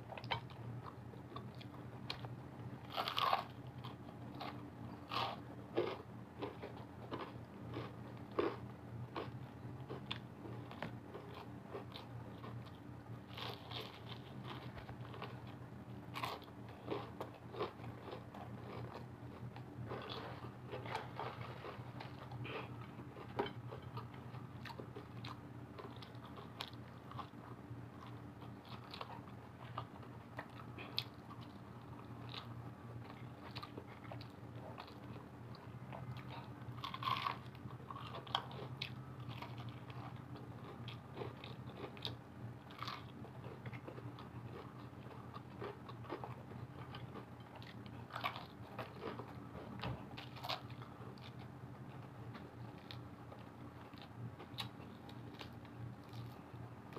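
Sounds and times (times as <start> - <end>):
crunchy chewing: 0.0 - 56.9.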